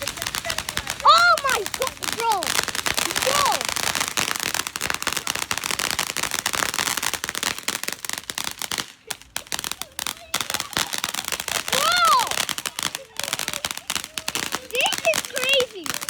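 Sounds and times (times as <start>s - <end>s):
firecracker pops: 0.0s - 16.0s.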